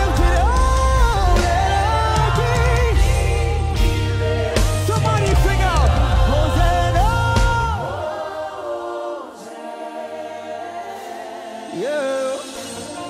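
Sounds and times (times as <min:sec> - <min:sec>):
soft sustained band backing: 0:00.0 - 0:13.0
voices singing worship song: 0:00.0 - 0:13.0.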